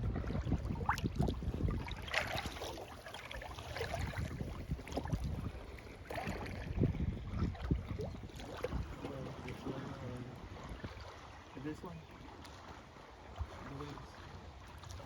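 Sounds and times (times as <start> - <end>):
kayak paddle splashing in water: 0.0 - 15.0.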